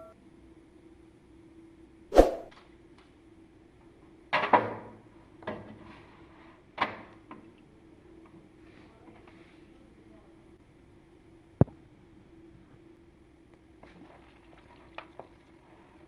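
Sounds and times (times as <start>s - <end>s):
faint steady hum: 0.0s - 4.3s, 7.2s - 16.0s.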